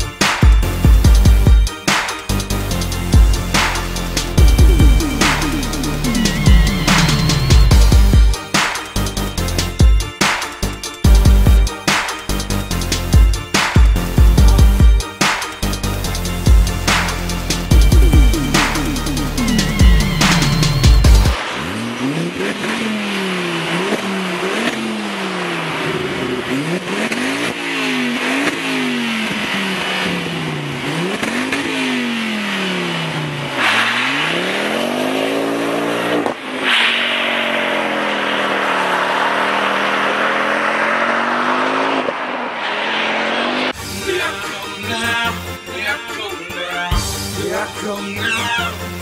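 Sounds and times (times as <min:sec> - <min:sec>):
car engine revving: 0:00.0 - 0:45.6.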